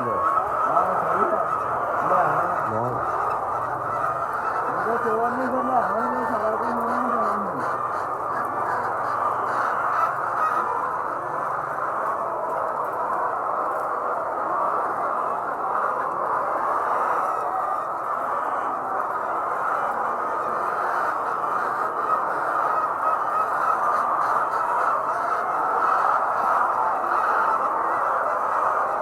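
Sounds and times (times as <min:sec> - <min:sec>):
hens clucking and squawking: 0:00.0 - 0:29.0.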